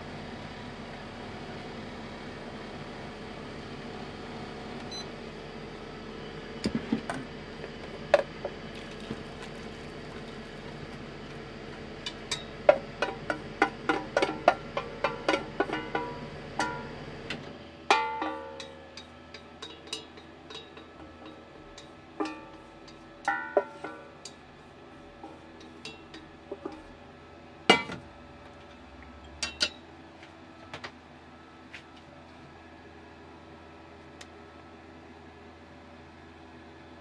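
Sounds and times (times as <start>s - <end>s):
induction cooktop hum: 0.0s - 37.0s.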